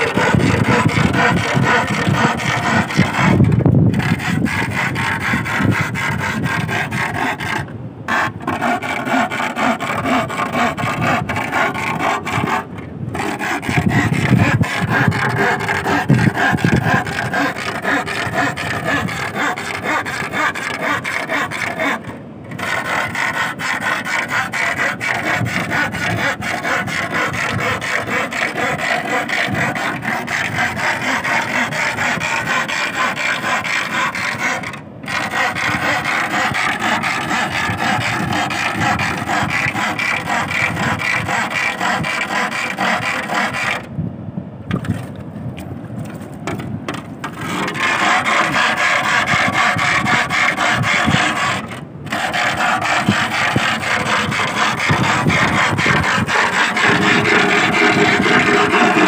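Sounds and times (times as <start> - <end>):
metal bar scraping wooden stake: 0.0 - 43.9, 44.7 - 59.0.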